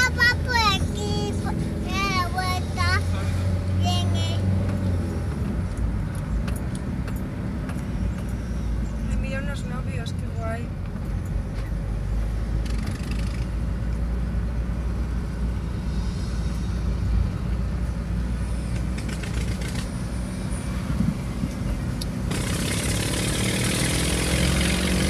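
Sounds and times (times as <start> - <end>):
vehicle engine and road drone: 0.0 - 25.0.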